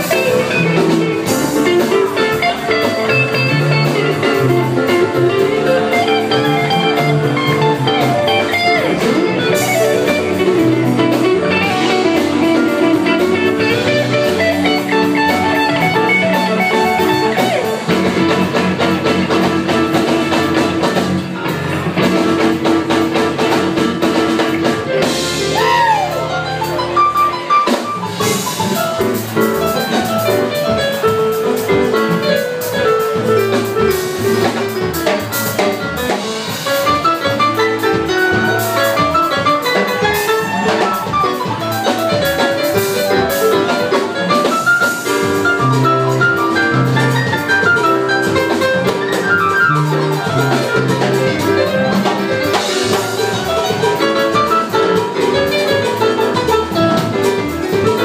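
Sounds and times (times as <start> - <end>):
band music with guitar and drums: 0.0 - 58.0.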